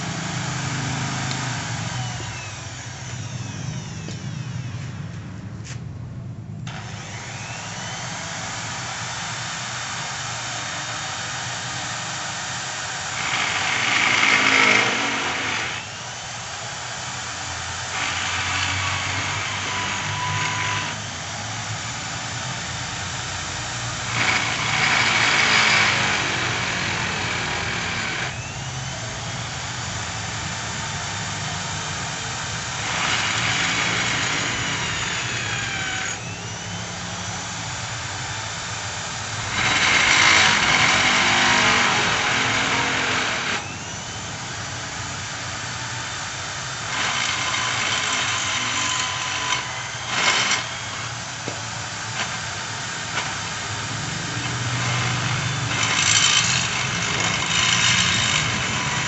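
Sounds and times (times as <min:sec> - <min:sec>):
drill bit cutting sheet metal: 0:00.0 - 0:05.1, 0:06.7 - 0:59.0
electric drill running: 0:00.0 - 0:05.8, 0:06.6 - 0:59.0.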